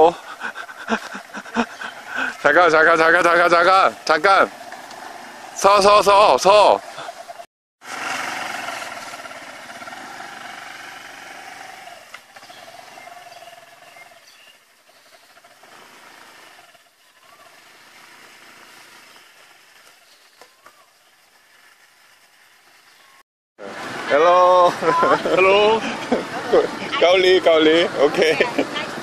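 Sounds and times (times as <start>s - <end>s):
motor scooter engine: 0.0s - 29.0s.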